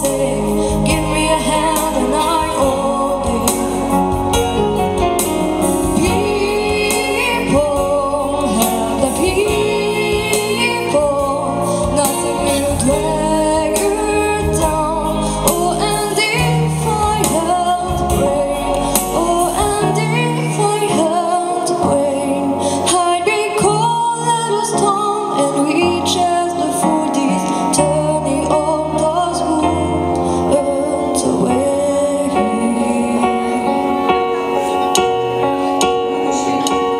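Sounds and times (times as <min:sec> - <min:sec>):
musical accompaniment with bass: 0:00.0 - 0:36.9
woman singing into a microphone: 0:00.0 - 0:36.9.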